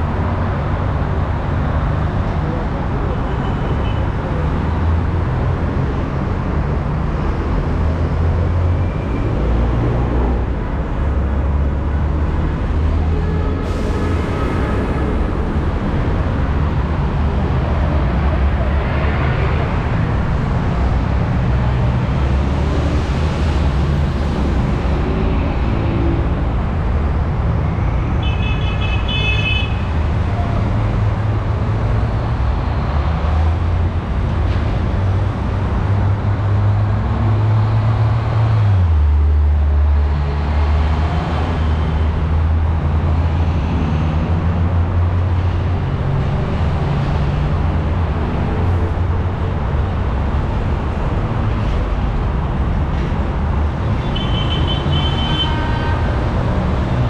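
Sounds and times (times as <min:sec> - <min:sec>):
bus and truck engines rumbling: 0:00.0 - 0:57.0
traffic noise: 0:00.0 - 0:57.0.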